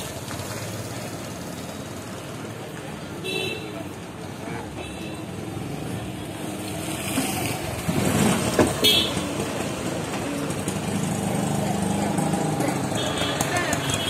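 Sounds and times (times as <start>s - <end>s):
motorcycle engines passing: 0.0s - 14.0s.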